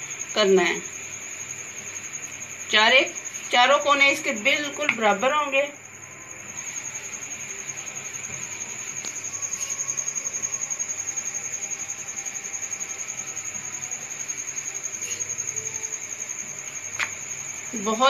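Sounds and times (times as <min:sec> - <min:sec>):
insect trilling: 0:00.0 - 0:18.0.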